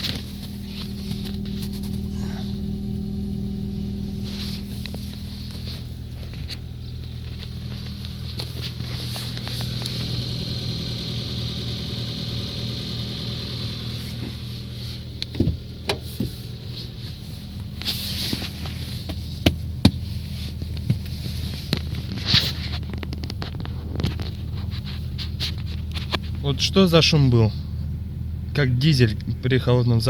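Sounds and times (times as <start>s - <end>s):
car engine idling with knock: 0.0s - 26.4s.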